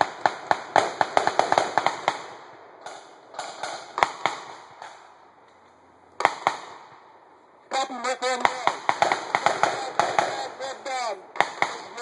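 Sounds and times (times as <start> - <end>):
rifle gunfire: 0.0 - 5.1, 6.2 - 7.0, 7.7 - 12.0.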